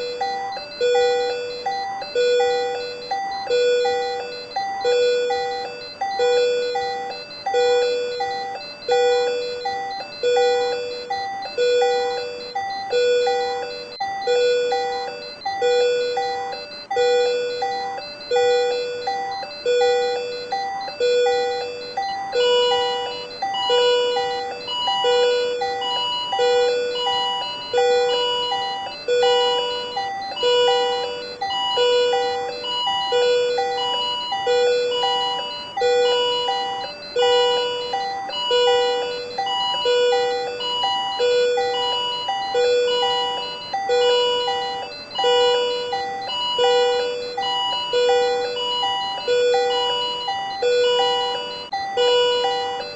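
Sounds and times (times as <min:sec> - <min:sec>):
patient monitor alarm beeps: 0:00.0 - 0:52.9.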